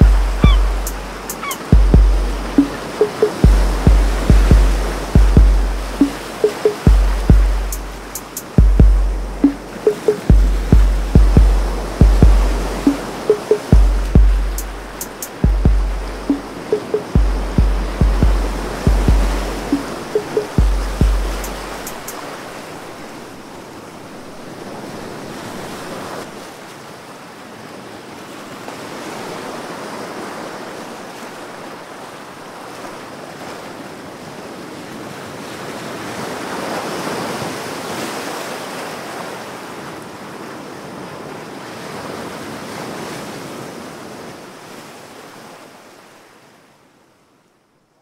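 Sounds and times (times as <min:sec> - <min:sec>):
ocean waves washing in: 0:00.0 - 0:46.6.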